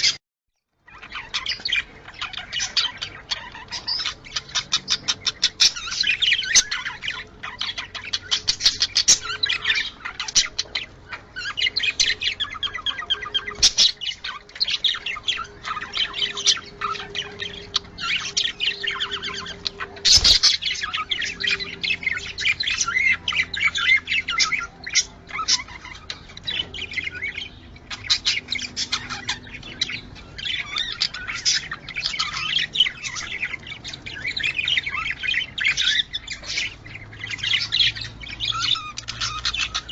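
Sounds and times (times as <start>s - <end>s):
budgerigars chattering: 0.8s - 39.9s.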